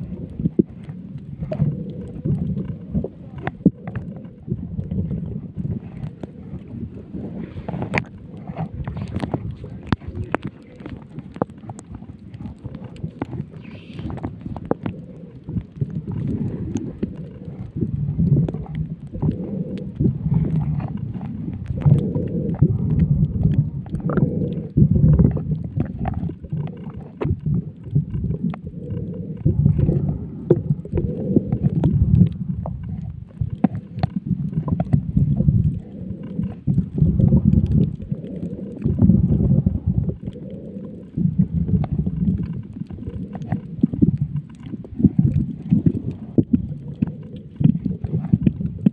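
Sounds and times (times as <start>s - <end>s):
underwater clicks and crackles: 0.0s - 48.9s
underwater rumbling water movement: 0.0s - 48.9s.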